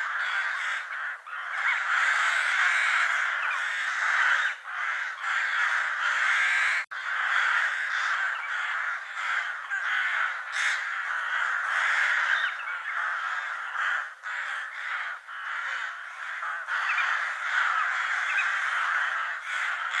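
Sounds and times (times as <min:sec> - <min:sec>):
crows cawing: 0:00.0 - 0:20.0.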